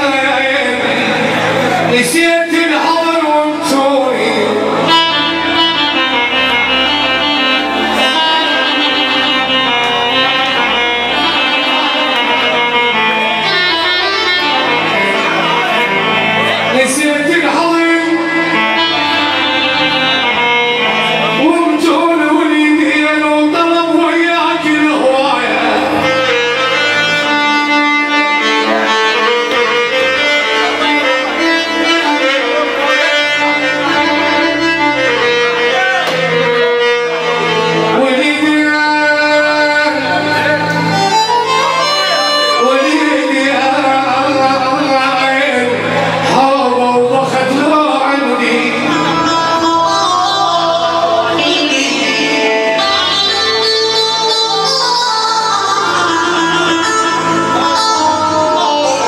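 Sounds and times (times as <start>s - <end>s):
loud instrumental band music: 0.0s - 59.0s.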